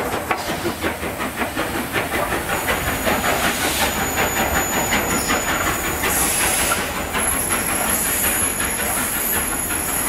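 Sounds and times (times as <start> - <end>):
steam locomotive chuffing: 0.0 - 10.0.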